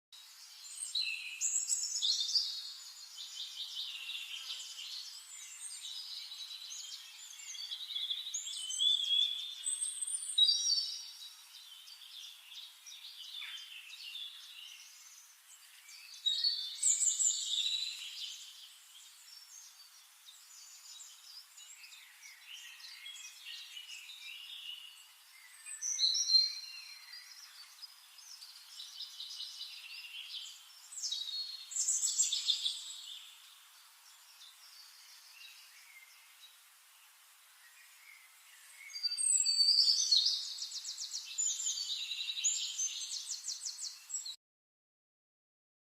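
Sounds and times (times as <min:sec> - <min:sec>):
songbirds singing: 0:00.2 - 0:44.4.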